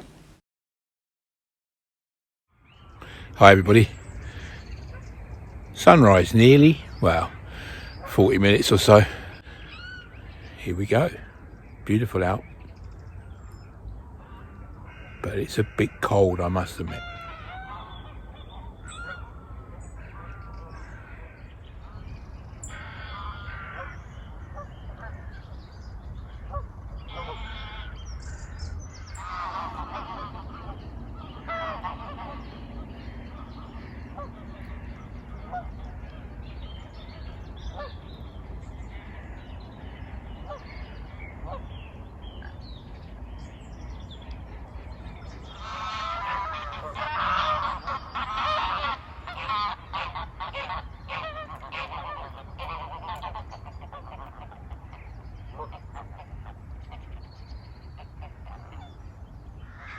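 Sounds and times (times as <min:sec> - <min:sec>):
steady low rumble: 0:02.9 - 0:59.9
geese honking: 0:03.0 - 0:05.2, 0:05.8 - 0:12.7, 0:14.2 - 0:25.5, 0:26.3 - 0:43.2, 0:44.2 - 0:59.9.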